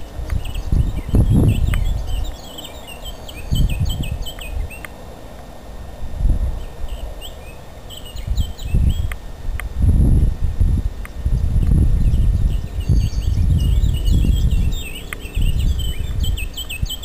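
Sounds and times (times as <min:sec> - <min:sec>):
songbirds twittering: 0:00.0 - 0:17.0
wind buffeting microphone: 0:00.0 - 0:17.0.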